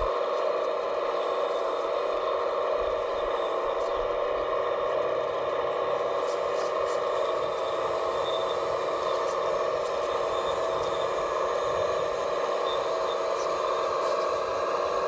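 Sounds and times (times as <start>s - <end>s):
electric motors and hydraulics humming: 0.0s - 15.0s.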